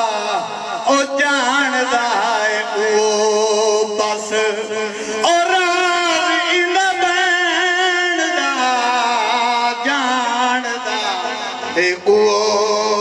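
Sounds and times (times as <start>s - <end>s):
man singing through microphone: 0.0s - 13.0s.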